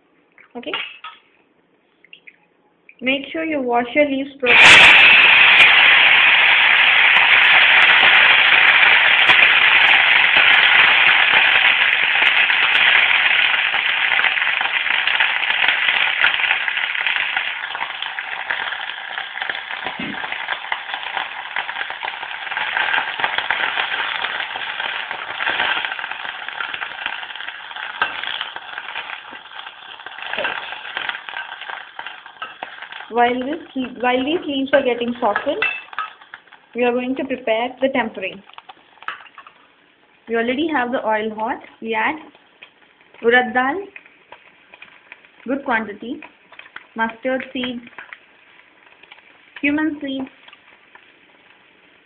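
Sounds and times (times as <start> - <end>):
leaves sizzling and crackling: 4.4 - 39.7, 40.4 - 52.0.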